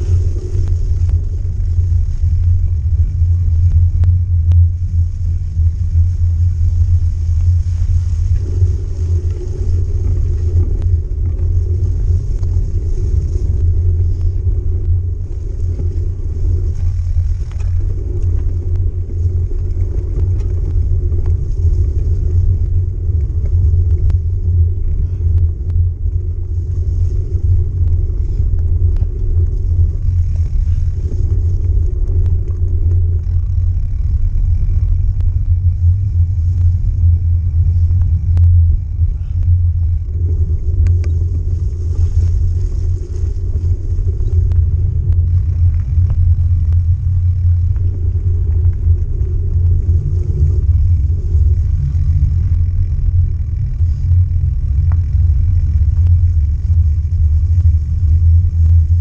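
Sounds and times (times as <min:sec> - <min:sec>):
bike tyres rolling on muddy trail: 0:00.0 - 0:59.0
wind buffeting microphone: 0:00.0 - 0:59.0.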